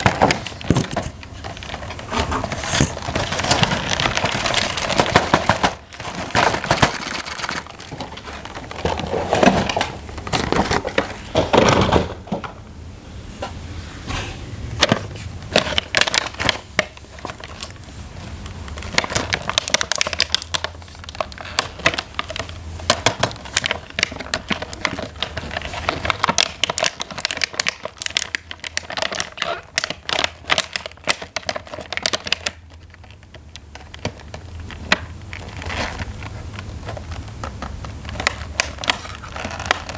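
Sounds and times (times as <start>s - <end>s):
plastic packaging crinkling: 0.0s - 12.1s, 14.8s - 39.9s.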